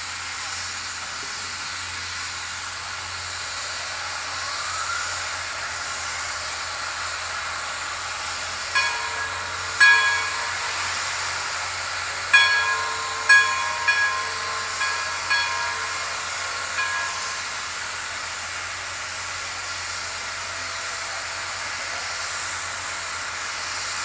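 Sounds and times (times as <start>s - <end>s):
steam hissing: 0.0s - 24.0s.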